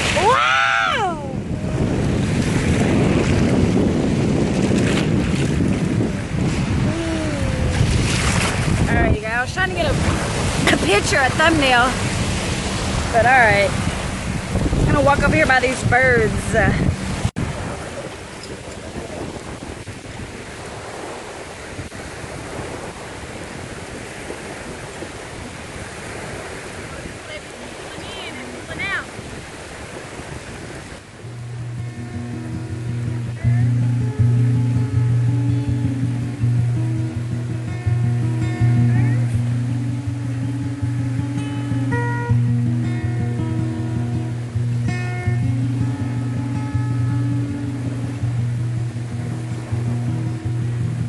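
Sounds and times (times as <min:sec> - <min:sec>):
waves breaking on shore: 0:00.0 - 0:51.0
wind buffeting microphone: 0:00.0 - 0:51.0.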